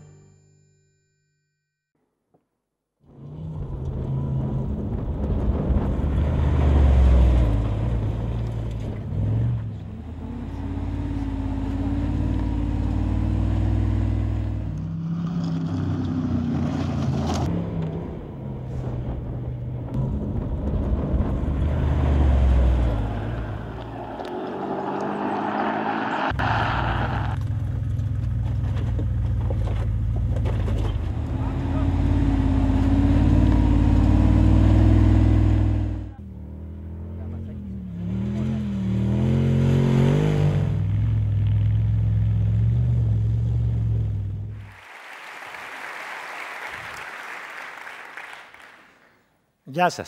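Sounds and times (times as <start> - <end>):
car engine revving: 3.1 - 44.8.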